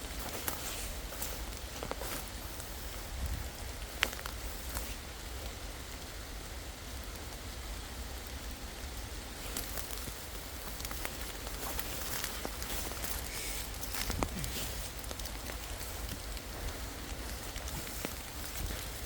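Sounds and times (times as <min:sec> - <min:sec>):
steady crackling hiss: 0:00.0 - 0:19.0
wind rumble on microphone: 0:00.0 - 0:19.0.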